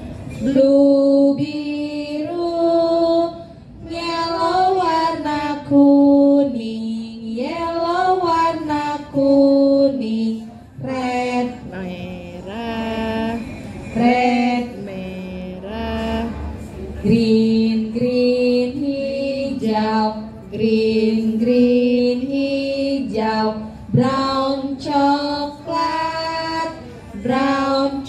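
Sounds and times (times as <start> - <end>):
woman and children singing: 0.3 - 28.0.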